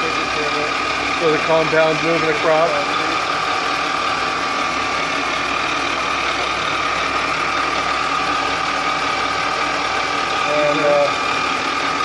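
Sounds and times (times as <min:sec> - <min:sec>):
lathe running with gear whine: 0:00.0 - 0:12.0.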